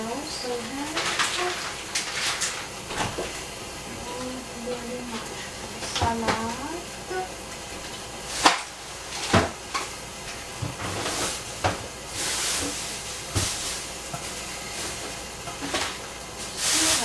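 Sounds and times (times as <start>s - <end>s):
steam hissing and sizzling: 0.0s - 17.0s.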